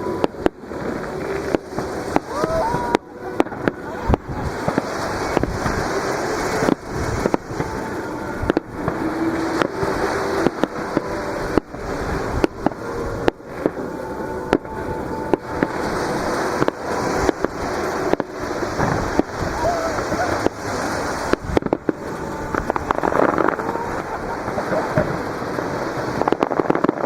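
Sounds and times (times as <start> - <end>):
fireworks bursting with sharp bangs: 0.0 - 27.0
fireworks crackling rumble: 0.0 - 27.0
surf breaking on beach: 0.0 - 27.0.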